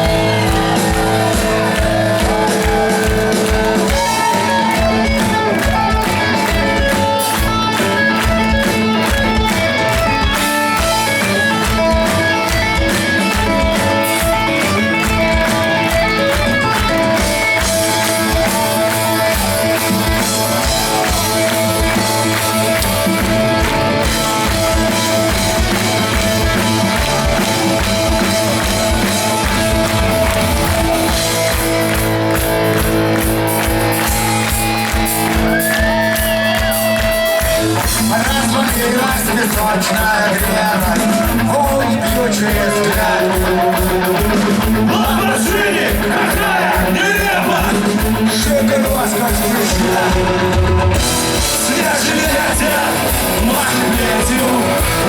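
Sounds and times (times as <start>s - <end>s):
drum kit beat: 0.0s - 55.0s
guitar: 0.0s - 55.0s.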